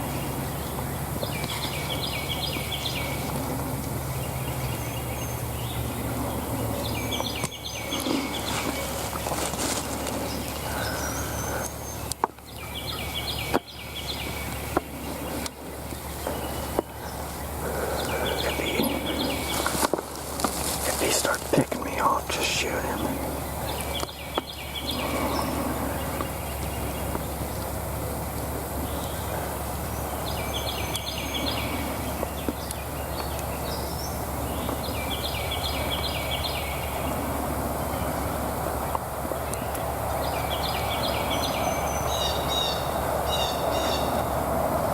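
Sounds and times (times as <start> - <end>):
outdoor background noise: 0.0 - 44.9
songbirds singing: 0.0 - 44.9
steady low hum: 0.0 - 44.9.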